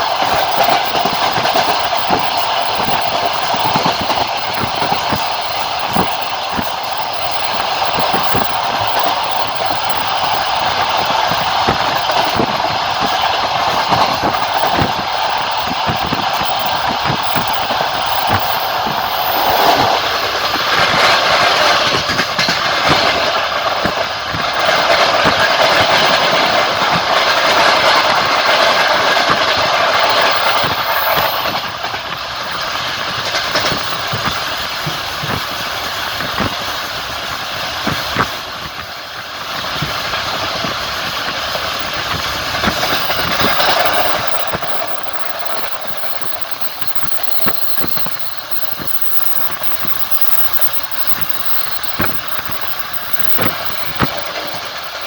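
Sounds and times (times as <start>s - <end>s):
train wheels rolling on rails: 0.0s - 55.0s
wheels clicking over rail joints: 0.0s - 55.0s.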